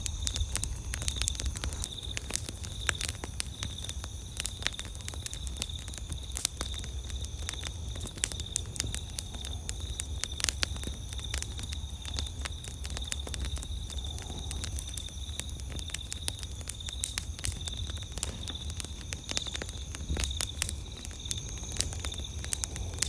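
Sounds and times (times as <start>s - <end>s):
campfire crackling and popping: 0.0s - 23.0s
night insects trilling: 0.0s - 23.0s.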